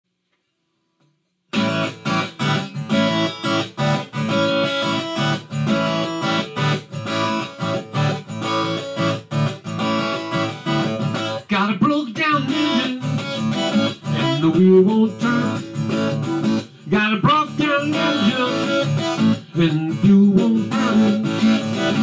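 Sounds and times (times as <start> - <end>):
acoustic guitar strumming: 1.5 - 22.0.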